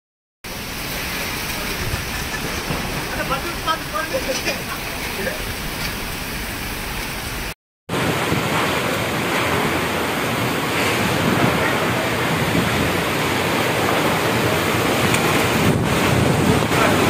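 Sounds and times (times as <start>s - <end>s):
heavy rain pouring: 0.4s - 17.0s
wind buffeting microphone: 0.8s - 17.0s.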